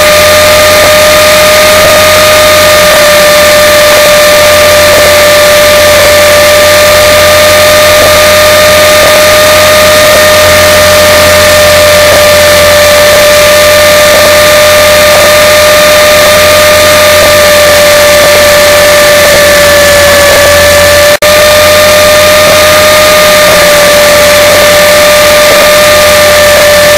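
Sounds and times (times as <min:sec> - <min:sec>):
rc helicopter whine: 0:00.0 - 0:26.9.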